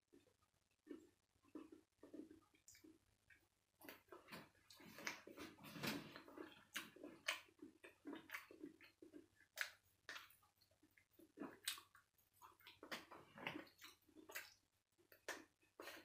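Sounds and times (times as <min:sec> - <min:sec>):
person chewing with wet smacks: 0:00.1 - 0:16.0.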